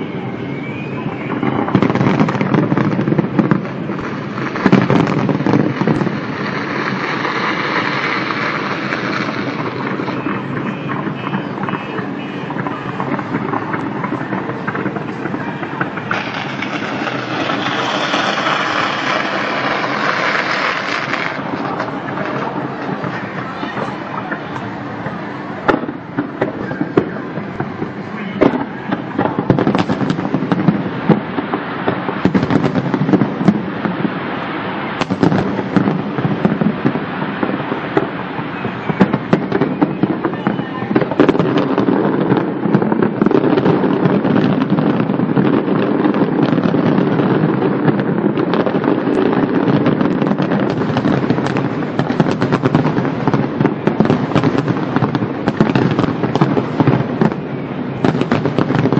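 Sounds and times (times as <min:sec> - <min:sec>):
fireworks popping and banging: 0:00.0 - 0:58.9.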